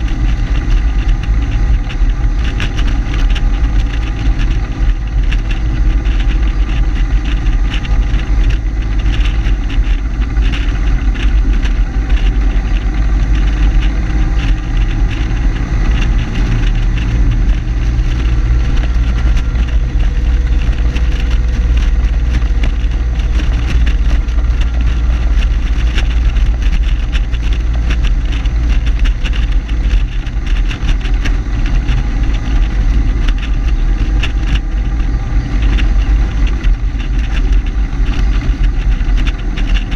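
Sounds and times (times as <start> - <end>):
car engine cruising: 0.0 - 39.9
road noise: 0.0 - 39.9
wind buffeting microphone: 0.0 - 39.9.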